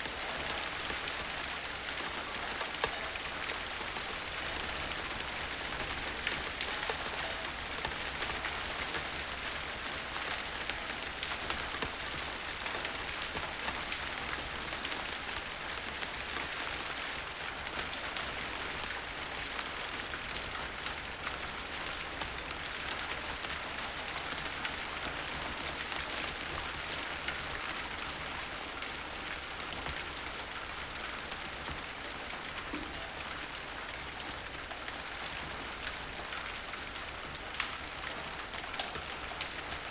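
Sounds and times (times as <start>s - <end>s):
rain drops ticking on surface: 0.0s - 39.9s.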